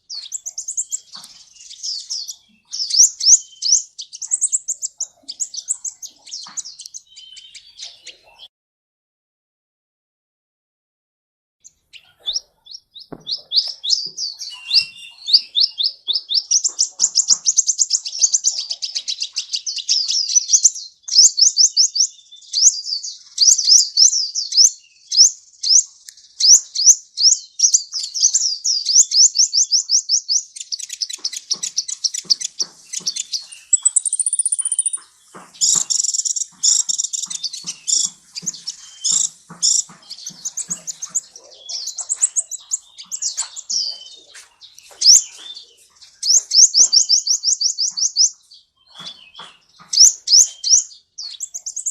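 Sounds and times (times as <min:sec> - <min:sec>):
bird singing high chirps: 0:00.0 - 0:08.5, 0:11.6 - 0:51.9.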